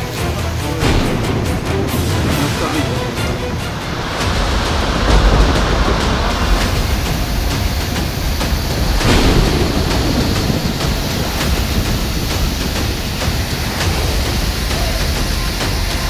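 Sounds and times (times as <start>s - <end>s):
river rushing over boulders: 1.3s - 15.1s.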